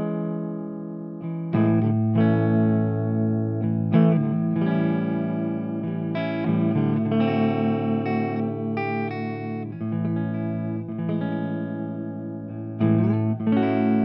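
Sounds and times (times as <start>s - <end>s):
electric guitar chords with effects: 0.0s - 14.0s.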